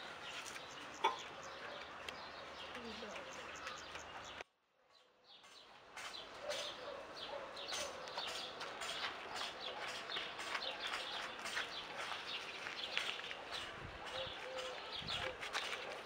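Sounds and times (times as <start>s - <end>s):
birds chirping: 0.0s - 4.4s, 5.3s - 16.0s.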